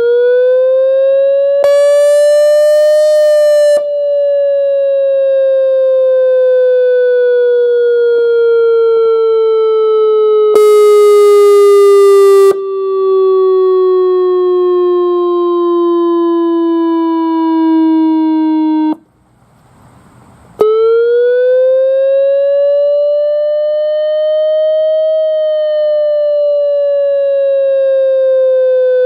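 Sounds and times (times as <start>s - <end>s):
electronic siren wailing: 0.0s - 19.0s, 20.6s - 29.0s.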